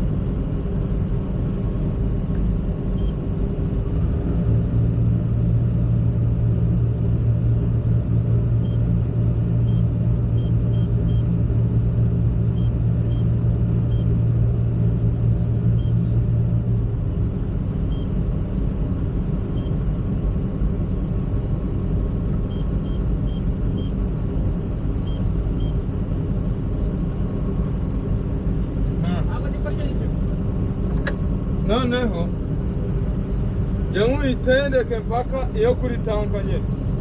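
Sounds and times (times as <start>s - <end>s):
excavator diesel engine rumbling: 0.0s - 37.0s.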